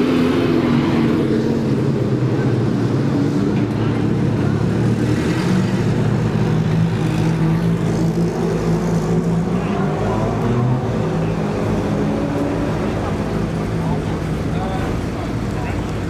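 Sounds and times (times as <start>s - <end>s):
other car engines: 0.0s - 16.0s
race car engine at low revs: 0.0s - 16.0s.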